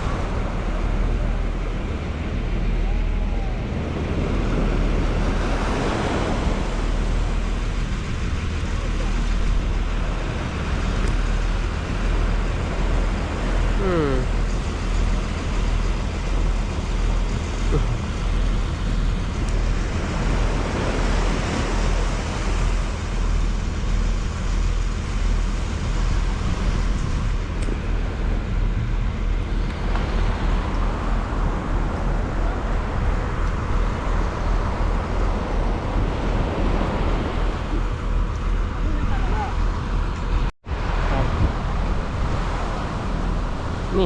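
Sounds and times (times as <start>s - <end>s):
breaking surf rushing: 0.0s - 44.0s
wind buffeting microphone: 0.0s - 44.0s.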